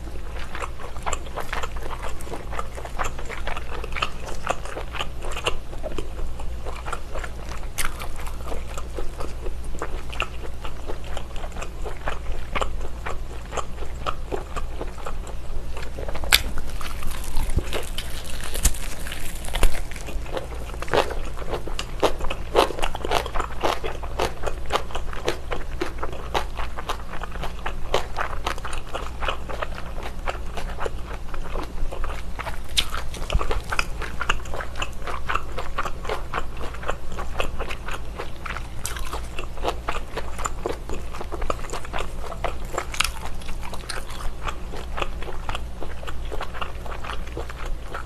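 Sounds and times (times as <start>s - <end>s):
biting and chewing bacon: 0.0s - 48.0s.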